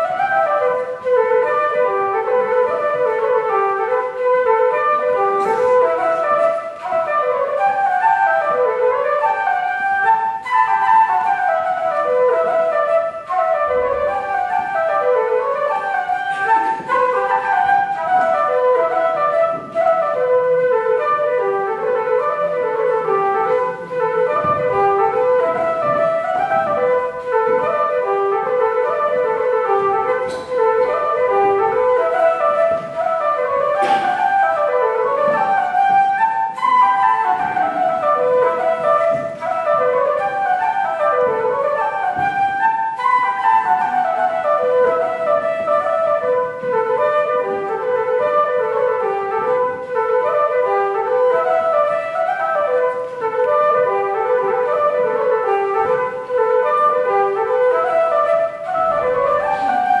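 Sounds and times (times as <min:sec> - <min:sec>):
wooden flute playing: 0:00.0 - 1:00.0.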